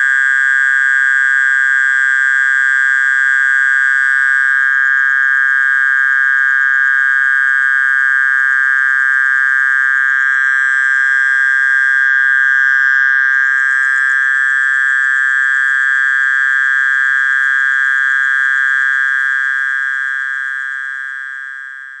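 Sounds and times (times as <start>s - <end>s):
mole cricket buzzing trill: 0.0s - 22.0s.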